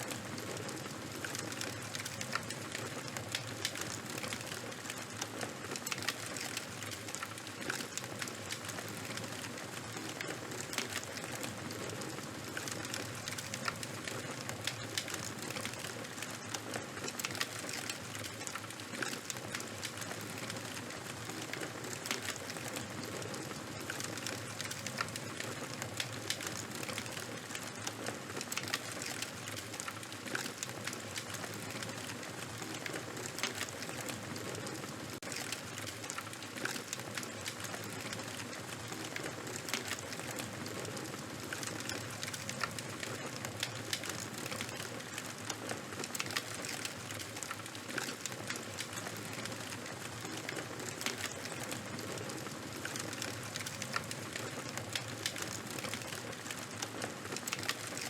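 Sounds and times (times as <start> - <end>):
fire burning with crackles and pops: 0.0 - 58.0.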